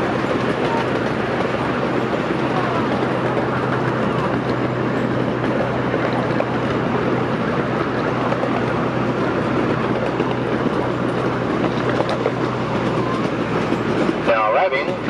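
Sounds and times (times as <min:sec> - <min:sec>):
park train rumbling on track: 0:00.0 - 0:15.0.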